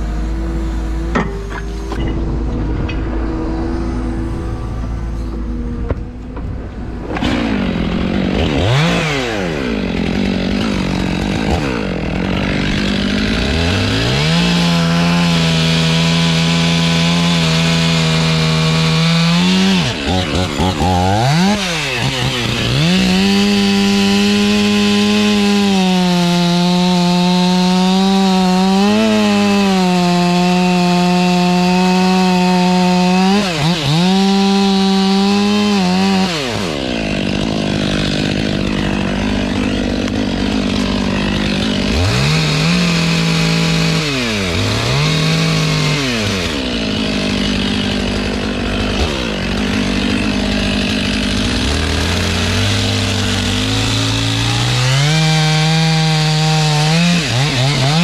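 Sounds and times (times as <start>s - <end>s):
chainsaw cutting wood: 0.0s - 2.2s, 4.0s - 58.0s.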